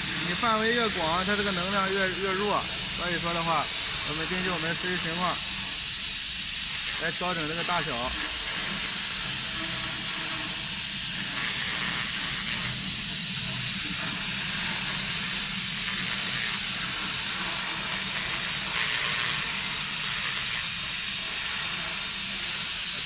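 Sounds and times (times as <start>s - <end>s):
laser cleaning hiss: 0.0s - 23.0s.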